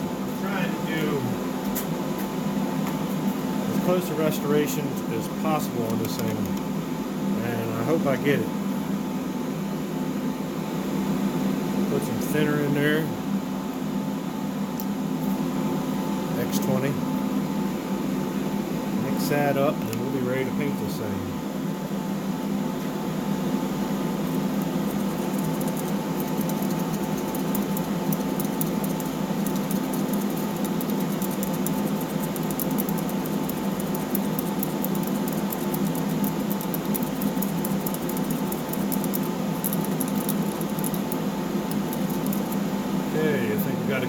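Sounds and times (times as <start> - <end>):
machine hum: 0.0 - 44.0.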